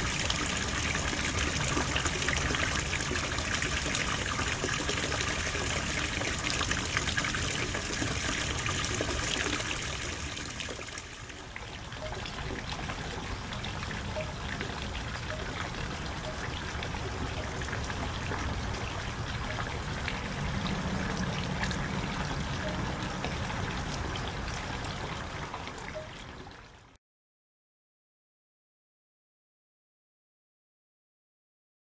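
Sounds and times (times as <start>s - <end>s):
pond water running: 0.0s - 27.0s.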